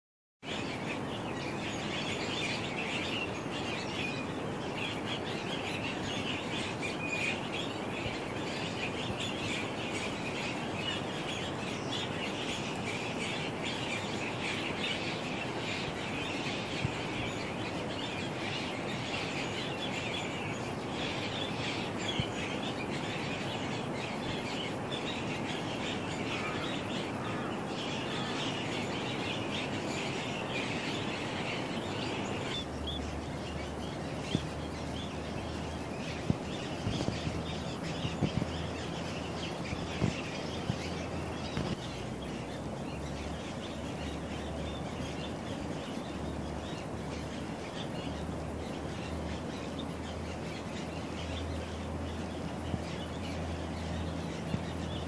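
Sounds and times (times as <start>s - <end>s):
outdoor background hiss: 0.4s - 55.0s
small birds chirping: 0.4s - 55.0s.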